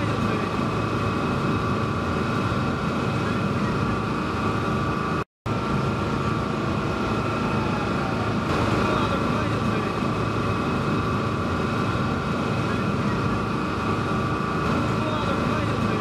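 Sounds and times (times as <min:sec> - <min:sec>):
propeller wash rushing: 0:00.0 - 0:16.0
ship engine drone: 0:00.0 - 0:16.0.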